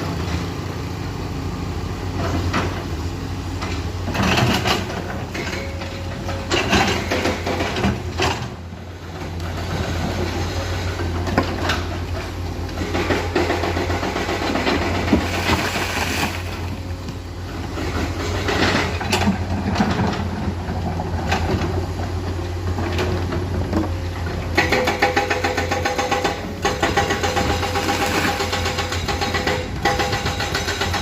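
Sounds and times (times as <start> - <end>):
excavator diesel engines running: 0.0 - 31.0
machine knocks and clanks: 3.6 - 8.6, 9.2 - 15.7, 17.0 - 31.0.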